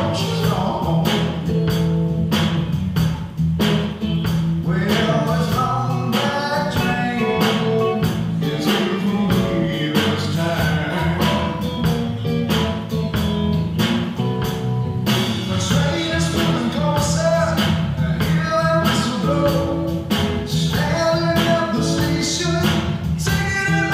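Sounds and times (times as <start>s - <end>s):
rock band playing: 0.0s - 23.9s.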